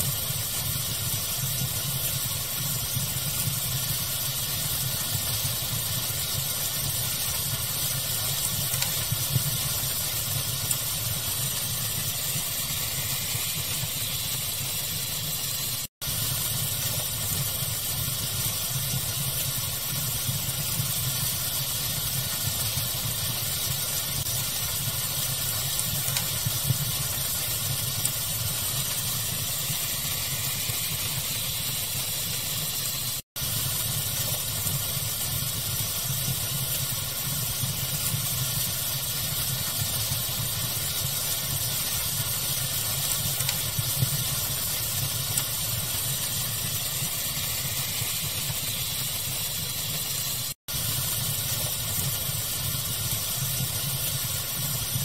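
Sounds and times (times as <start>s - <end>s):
steady hiss: 0.0s - 55.0s
wood fire crackling: 0.0s - 55.0s.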